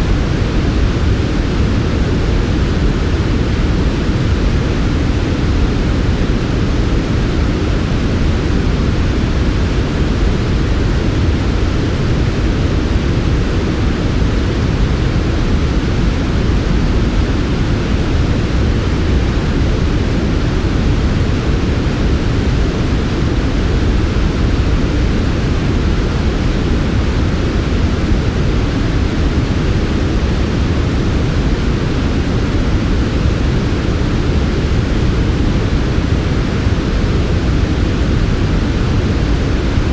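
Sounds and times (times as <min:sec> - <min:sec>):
soft white noise: 0:00.0 - 0:39.9.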